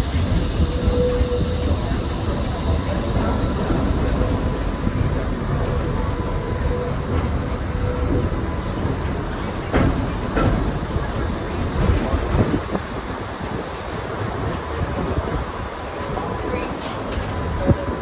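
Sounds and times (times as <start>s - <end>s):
streetcar wheels rumbling: 0.0s - 18.0s.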